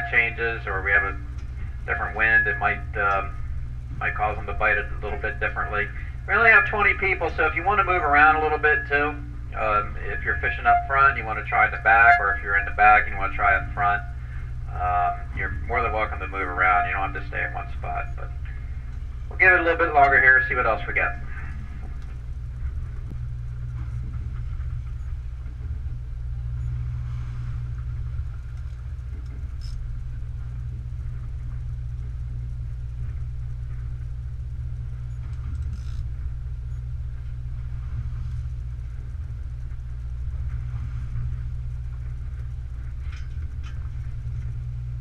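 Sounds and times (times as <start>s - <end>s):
boat engine rumbling: 0.0s - 45.0s.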